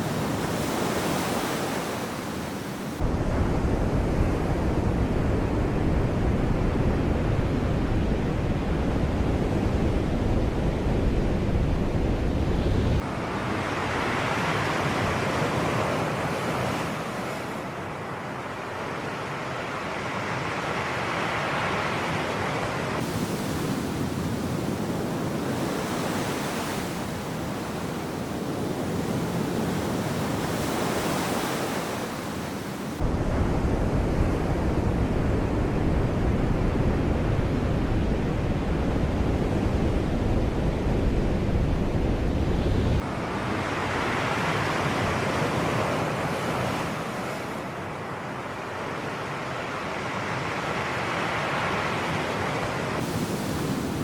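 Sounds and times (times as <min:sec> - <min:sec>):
sea waves washing in: 0:00.0 - 0:54.0.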